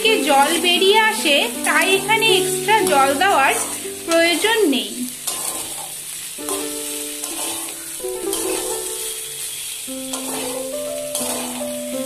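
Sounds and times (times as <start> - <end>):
soft instrumental music: 0.0 - 5.3, 6.4 - 12.0
spatula stirring in a pan: 0.0 - 12.0
vegetables sizzling in oil: 0.0 - 12.0.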